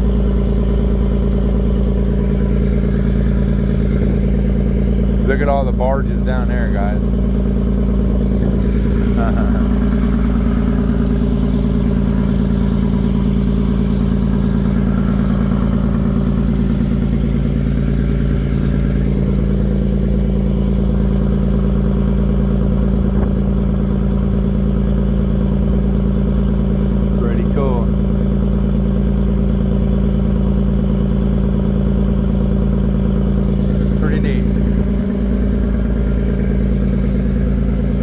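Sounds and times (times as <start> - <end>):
engine drone: 0.0 - 38.0.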